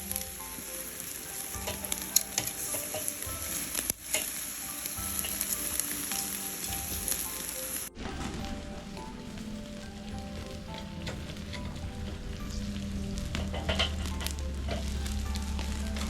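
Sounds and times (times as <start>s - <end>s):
food sizzling on a grill: 0.0s - 16.0s
soft background music: 0.0s - 16.0s.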